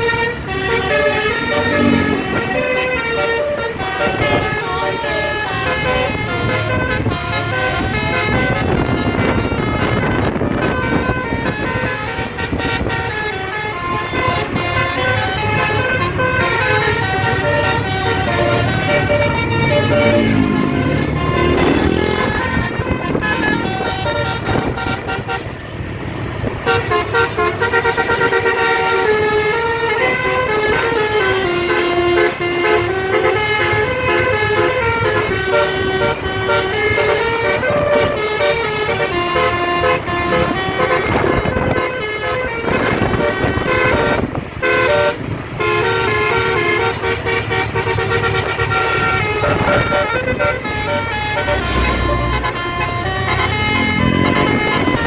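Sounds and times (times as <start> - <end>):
bus engine: 0.0 - 55.0
bus musical air horn tune: 0.0 - 55.0
road noise: 0.0 - 55.0.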